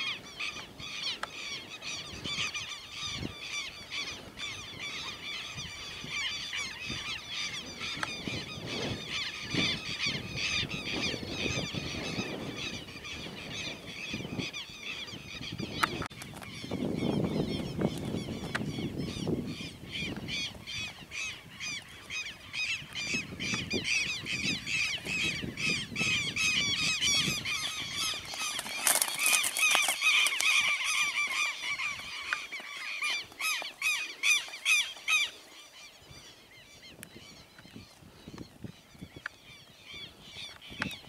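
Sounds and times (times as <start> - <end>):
birds calling harshly: 0.0 - 41.0.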